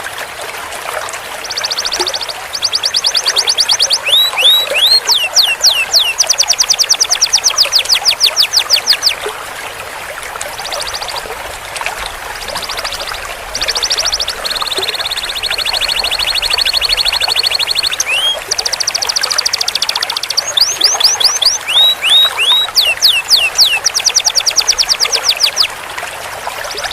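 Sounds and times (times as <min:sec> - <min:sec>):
canary singing in rolls: 0:01.4 - 0:09.2, 0:10.6 - 0:11.2, 0:12.4 - 0:25.7.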